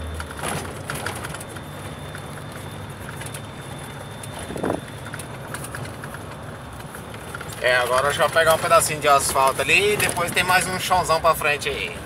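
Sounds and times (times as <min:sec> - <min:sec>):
rattles and clicks: 0:00.0 - 0:11.2
road noise: 0:00.0 - 0:12.0
truck engine drone: 0:00.0 - 0:12.0.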